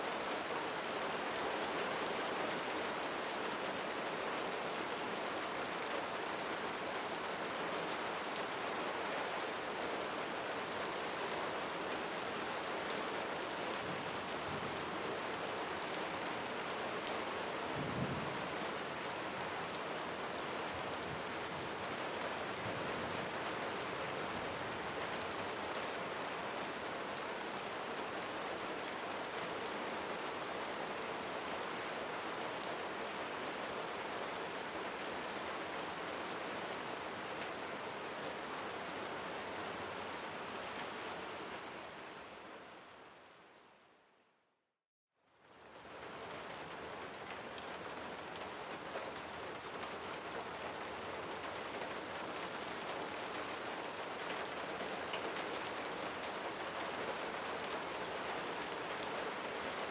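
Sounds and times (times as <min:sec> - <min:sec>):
rain falling on leaves: 0:00.0 - 0:44.3, 0:45.2 - 0:59.9.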